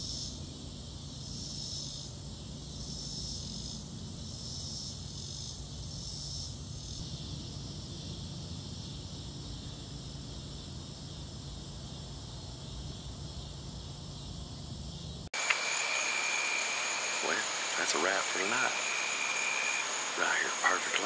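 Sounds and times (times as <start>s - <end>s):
crickets and insects trilling: 0.0s - 21.0s.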